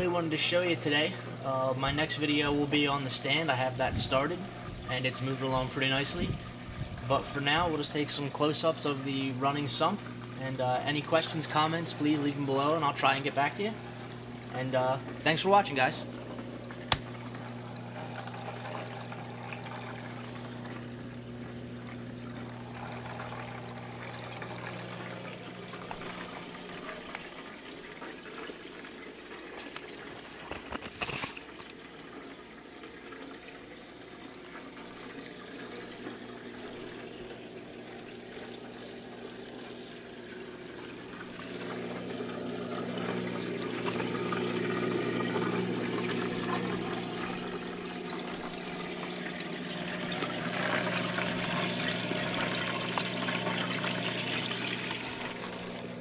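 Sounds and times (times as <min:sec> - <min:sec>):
pump humming: 0:00.0 - 0:56.0
water pouring and splashing: 0:00.0 - 0:56.0.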